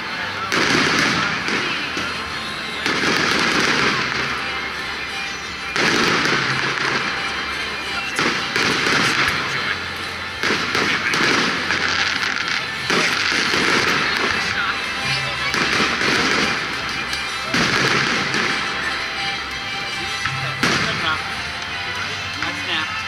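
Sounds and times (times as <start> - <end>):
fireworks bangs and crackle: 0.0 - 22.9.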